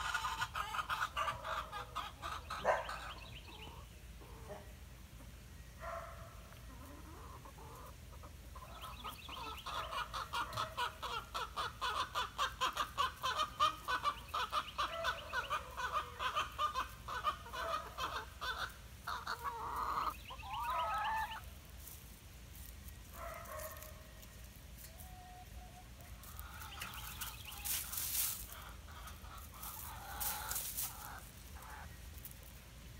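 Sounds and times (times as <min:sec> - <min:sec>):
chickens clucking: 0:00.0 - 0:32.9.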